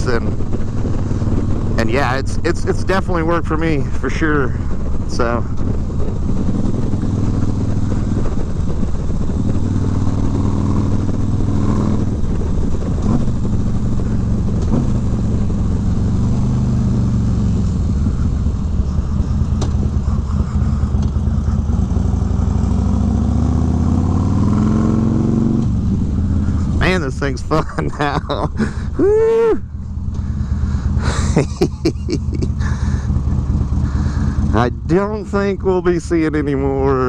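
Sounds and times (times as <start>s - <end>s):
motorcycle engine at highway speed: 0.0s - 37.0s.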